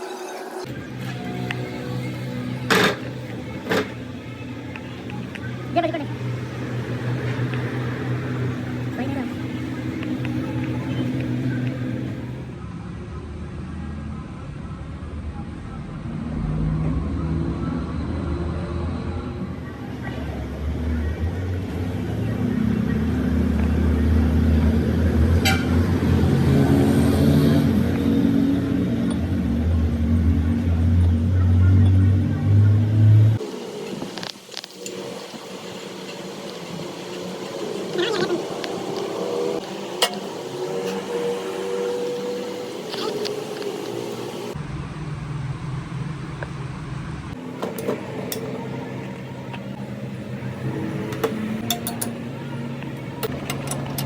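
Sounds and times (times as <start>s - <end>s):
vehicle engine humming: 0.6s - 13.2s, 13.8s - 54.0s.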